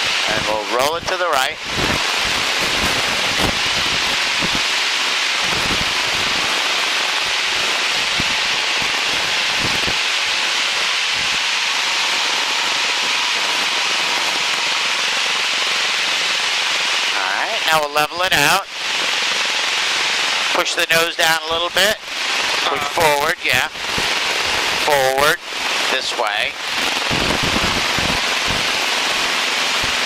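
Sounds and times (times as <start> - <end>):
airplane cabin noise: 0.0 - 30.0.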